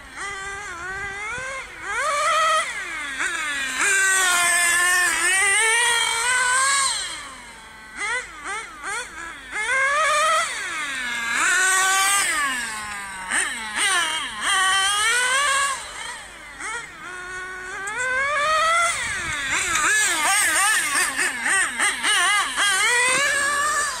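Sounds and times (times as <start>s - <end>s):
small engine revving: 0.0s - 24.0s.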